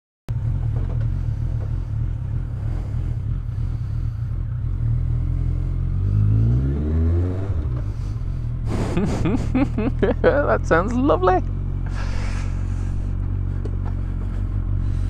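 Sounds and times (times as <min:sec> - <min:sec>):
motorcycle engine revving: 0:00.3 - 0:15.0.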